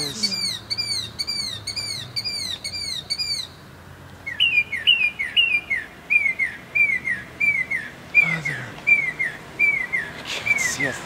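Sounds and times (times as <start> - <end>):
bird singing repeated chirps: 0.0 - 3.6, 4.2 - 11.0.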